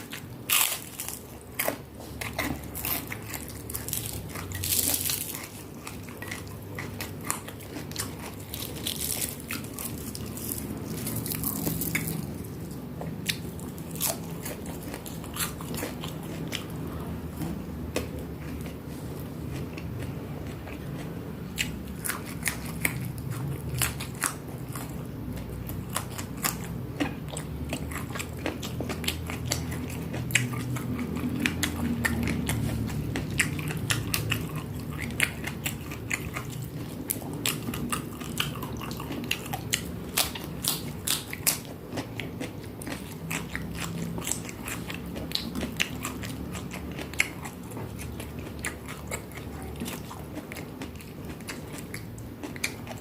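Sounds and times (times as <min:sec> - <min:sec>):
person chewing crunchy food: 0:00.0 - 0:53.0.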